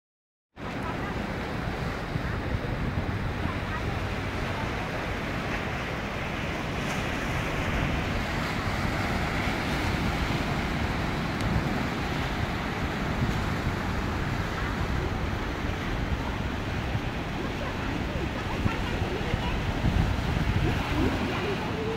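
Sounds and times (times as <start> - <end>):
surf breaking over rocks: 0.6 - 21.9
wind rumbling on microphone: 0.6 - 21.9.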